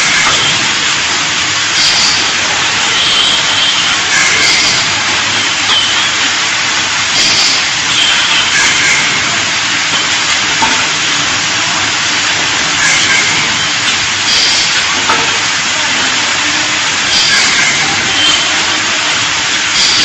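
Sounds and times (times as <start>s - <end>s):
welding machine hissing: 0.0s - 20.0s.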